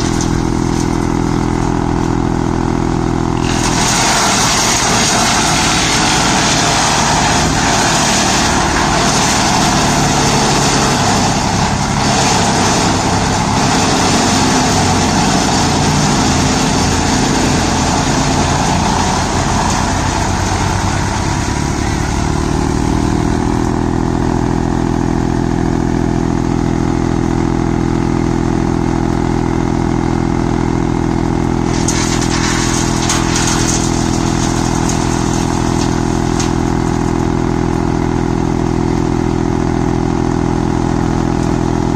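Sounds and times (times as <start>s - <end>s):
tractor engine drone: 0.0s - 41.9s
wood chipper shredding branches: 0.0s - 41.9s.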